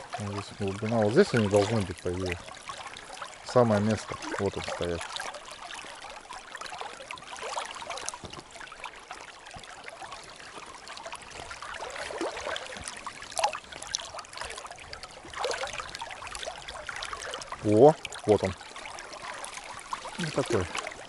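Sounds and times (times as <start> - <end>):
faint splashes: 0.0 - 21.0
river water gurgling: 0.0 - 21.0.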